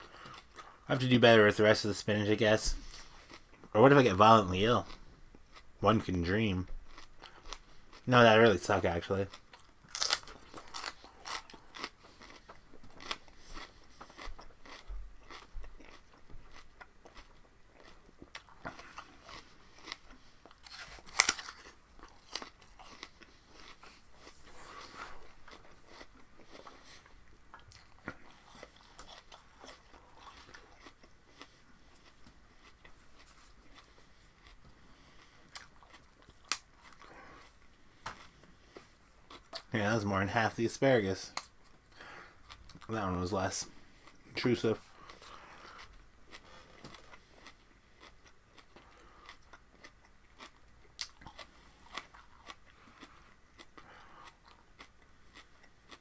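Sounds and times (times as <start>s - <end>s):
chewing crunchy vegetable: 0.0s - 56.0s.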